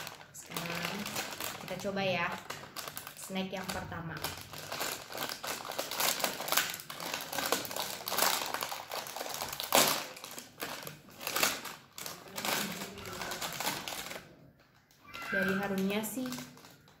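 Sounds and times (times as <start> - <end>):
plastic packet crinkling: 0.0 - 17.0.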